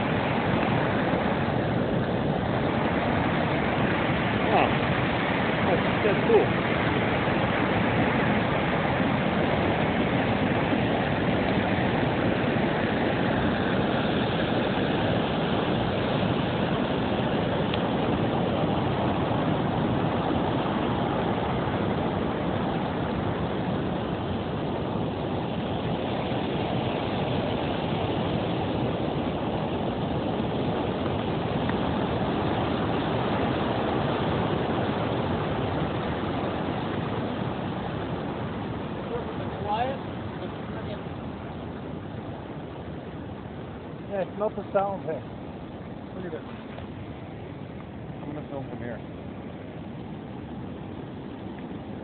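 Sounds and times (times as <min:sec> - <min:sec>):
water rushing through spillway: 0:00.0 - 0:52.0.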